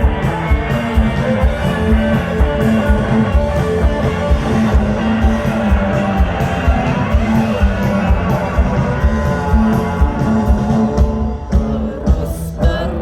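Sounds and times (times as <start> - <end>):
rock band playing: 0.0 - 13.0.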